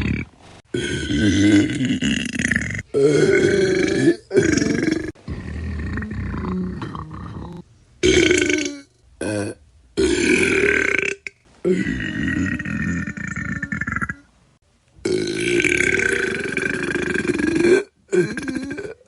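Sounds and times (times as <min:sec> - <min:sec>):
person belching: 0:00.0 - 0:14.3, 0:15.0 - 0:19.0.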